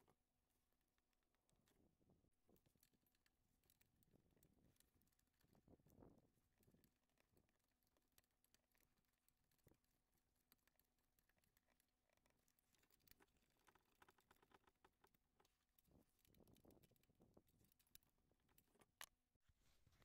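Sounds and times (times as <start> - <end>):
faint scattered clicks: 2.5 - 19.2.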